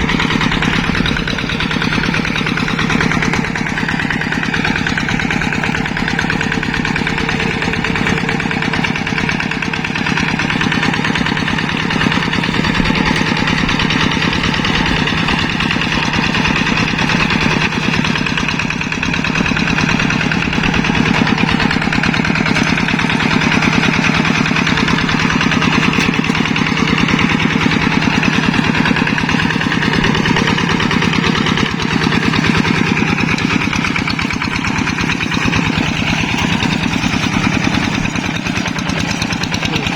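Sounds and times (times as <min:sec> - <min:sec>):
hand tractor diesel engine: 0:00.0 - 0:39.9.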